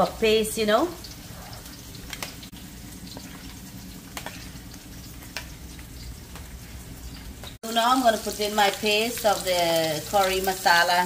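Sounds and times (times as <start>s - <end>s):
faint frying in a pot: 0.0s - 11.0s.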